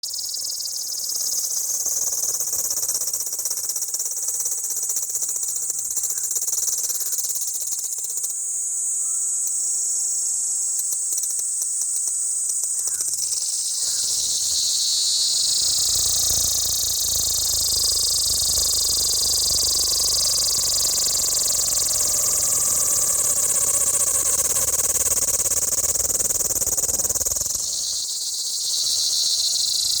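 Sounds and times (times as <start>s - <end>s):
insects shrilling: 0.2s - 30.0s.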